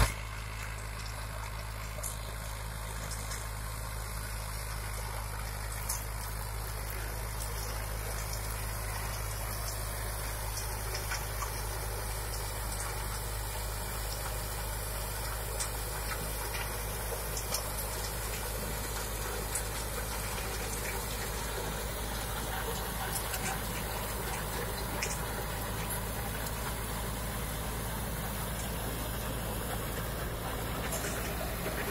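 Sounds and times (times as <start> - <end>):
tractor diesel engine droning: 0.0 - 31.9.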